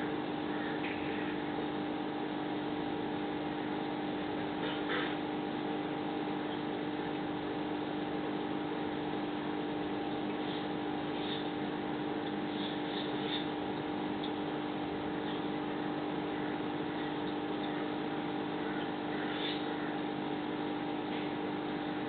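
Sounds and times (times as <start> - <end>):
pump motor humming: 0.0 - 22.0.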